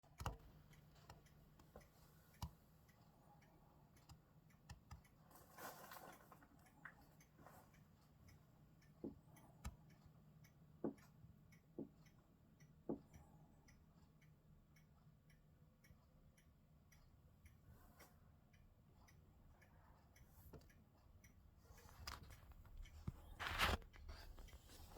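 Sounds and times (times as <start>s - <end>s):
faint regular ticking: 0.0s - 24.9s.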